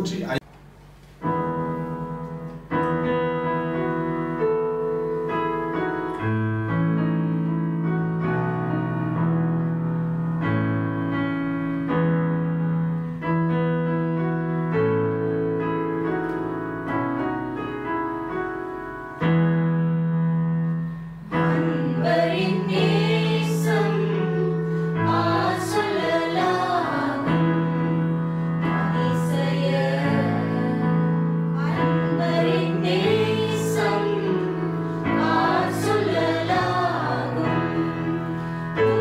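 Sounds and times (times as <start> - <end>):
electronic keyboard playing chords: 0.0 - 39.0.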